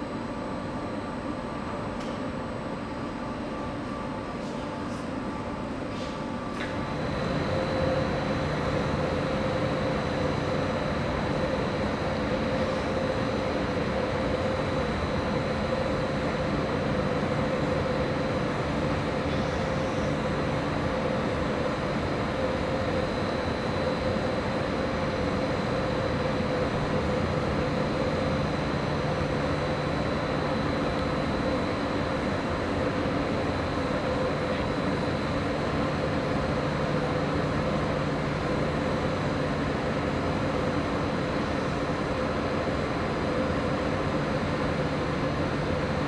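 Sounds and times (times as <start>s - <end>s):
constant high whine: 0.0s - 46.0s.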